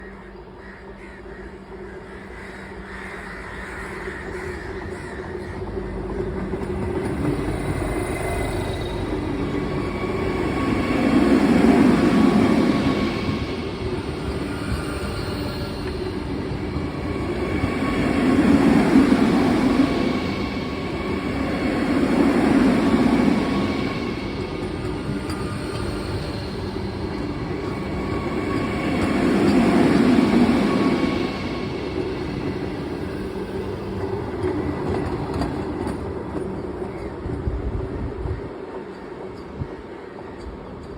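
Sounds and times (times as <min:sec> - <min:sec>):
train rushing past: 0:02.6 - 0:40.9.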